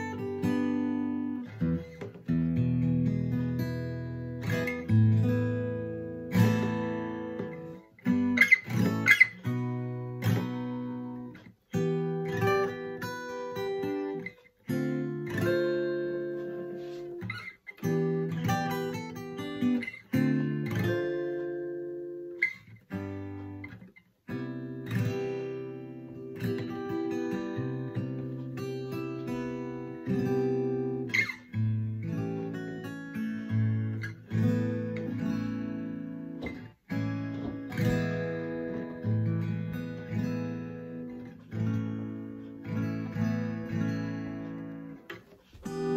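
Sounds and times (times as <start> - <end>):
acoustic guitar chords strummed: 0.0 - 45.9.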